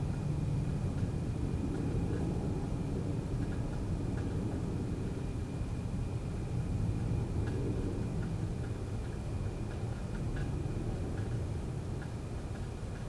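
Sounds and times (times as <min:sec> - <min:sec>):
air conditioner fan rumble: 0:00.0 - 0:13.0.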